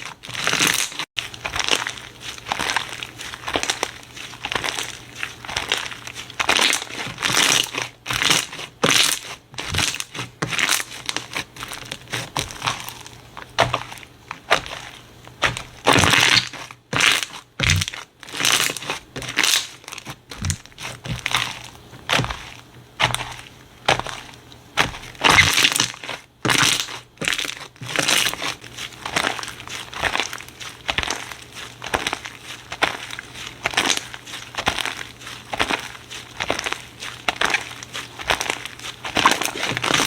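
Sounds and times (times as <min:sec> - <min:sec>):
slime squishing and crackling: 0:00.0 - 0:40.0.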